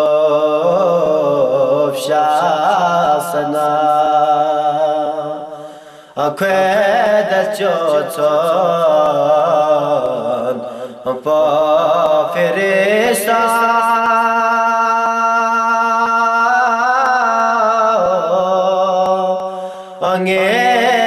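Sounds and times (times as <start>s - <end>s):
person chanting devotional song: 0.0s - 21.0s.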